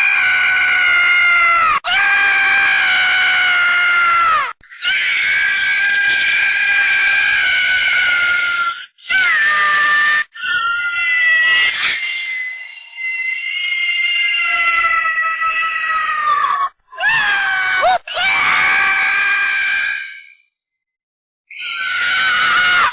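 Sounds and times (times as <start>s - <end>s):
cartoon squirrel screaming: 0.0s - 20.2s, 21.5s - 22.9s.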